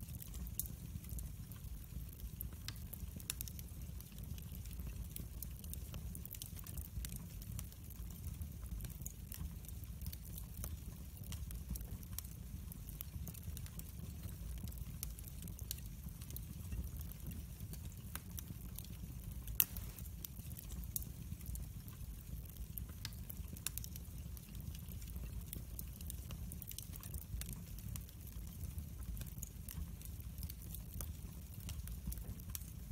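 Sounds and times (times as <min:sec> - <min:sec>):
logs crackling in a fireplace: 0:00.0 - 0:32.9
low steady fire rumble: 0:00.0 - 0:32.9.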